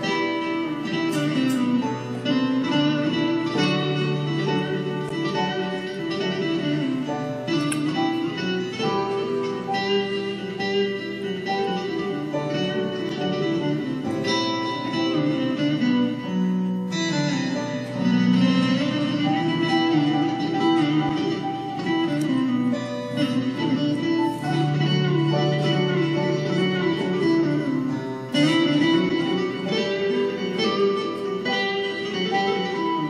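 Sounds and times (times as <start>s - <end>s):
electronic keyboard chords: 0.0s - 33.0s
lute picking quick melody: 0.0s - 33.0s.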